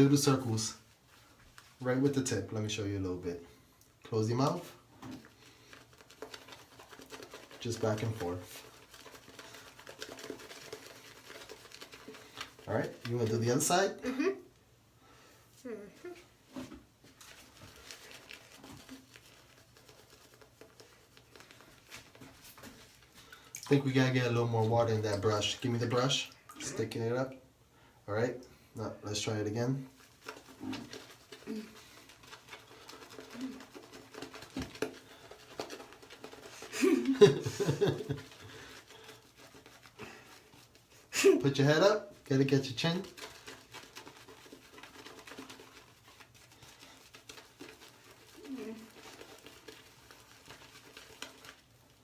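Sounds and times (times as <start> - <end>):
shaving brush swishing lather: 0.0 - 3.4, 4.1 - 14.0, 16.0 - 26.8, 29.1 - 52.0.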